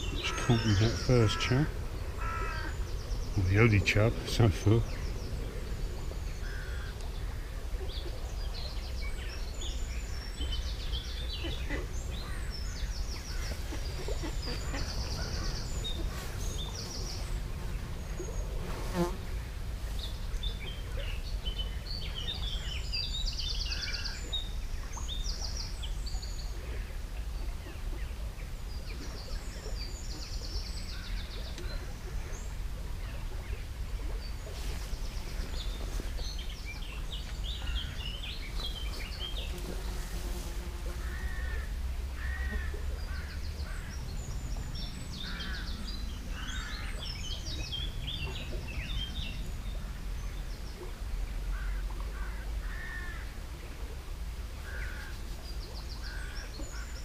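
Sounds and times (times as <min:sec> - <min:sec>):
small birds chirping and trilling: 0:00.0 - 0:41.6, 0:42.2 - 0:50.9, 0:54.7 - 0:57.0.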